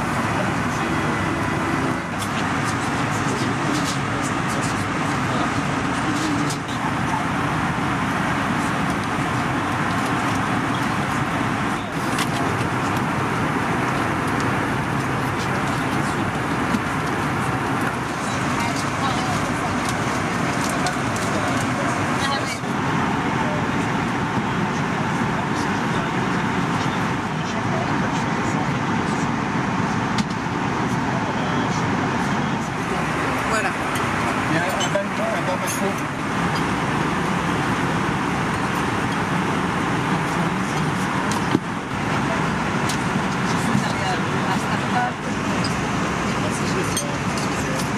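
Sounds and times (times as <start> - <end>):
airplane cabin engine and airflow roar: 0.0 - 47.9.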